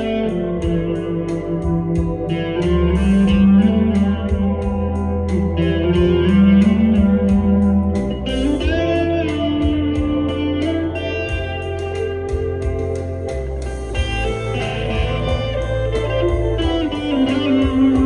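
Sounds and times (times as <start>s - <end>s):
electric guitar sustained notes: 0.0s - 18.0s.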